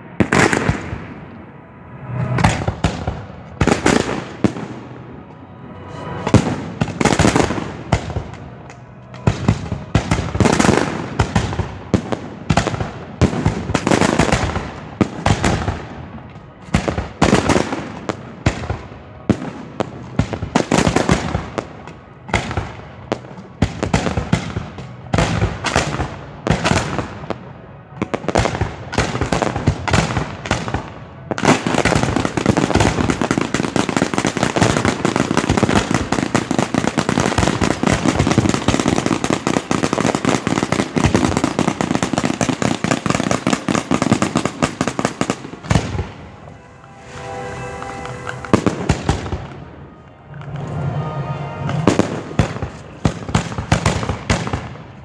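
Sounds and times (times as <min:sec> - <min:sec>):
fireworks bangs: 0:00.0 - 0:05.3, 0:06.0 - 0:55.0.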